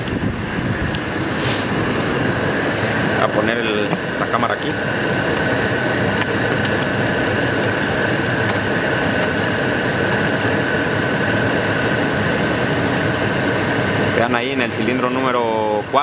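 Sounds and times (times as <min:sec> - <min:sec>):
engine idling with misfire: 0:00.0 - 0:16.0.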